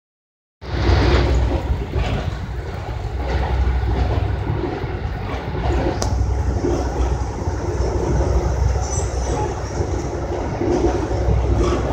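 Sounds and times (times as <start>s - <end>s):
train wheels rumbling on rail: 0.6s - 11.9s.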